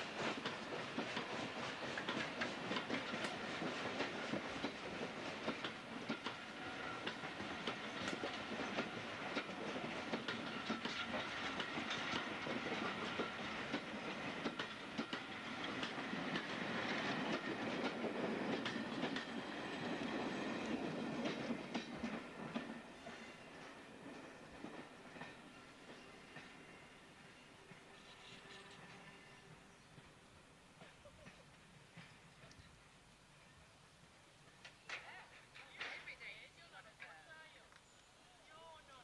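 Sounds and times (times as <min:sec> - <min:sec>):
train wheels clattering on rail joints: 0:00.0 - 0:32.9, 0:34.4 - 0:36.1.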